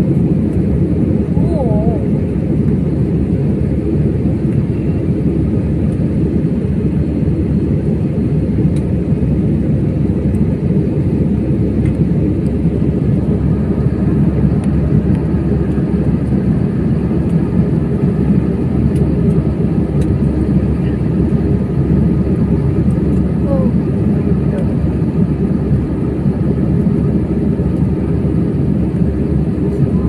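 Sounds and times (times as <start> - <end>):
airliner cabin engine roar: 0.0 - 30.0.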